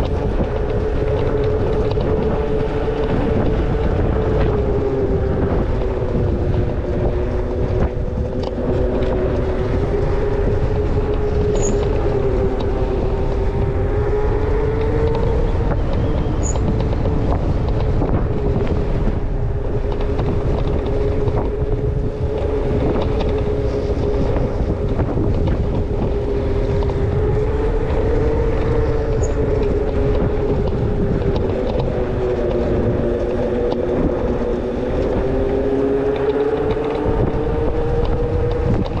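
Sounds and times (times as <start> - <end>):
electric moped motor whining: 0.0 - 39.0
wind rumble on microphone: 0.0 - 39.0.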